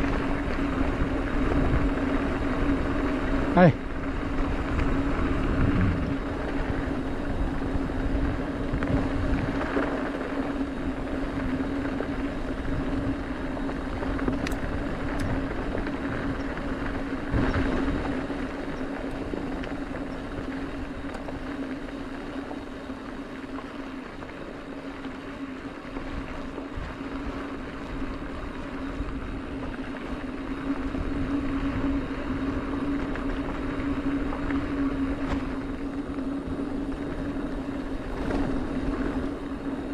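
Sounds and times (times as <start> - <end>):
bike tyres rolling on dirt: 0.0 - 39.9.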